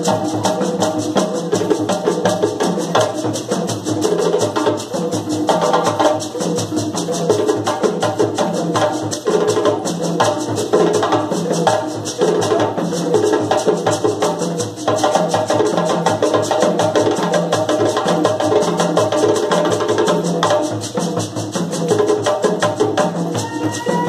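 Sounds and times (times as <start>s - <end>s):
hand drums ensemble rhythm: 0.0s - 24.0s.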